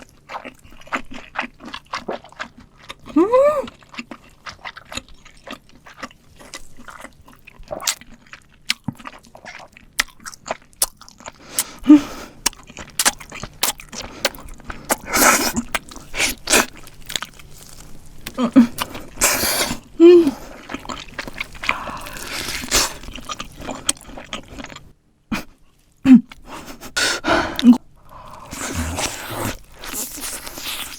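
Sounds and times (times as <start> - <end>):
crunching and chewing fried chicken: 0.0 - 26.9, 27.5 - 30.9.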